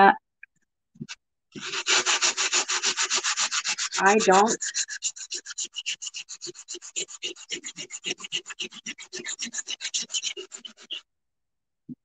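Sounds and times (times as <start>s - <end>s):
sanding sponge rubbing tile: 1.0s - 11.0s.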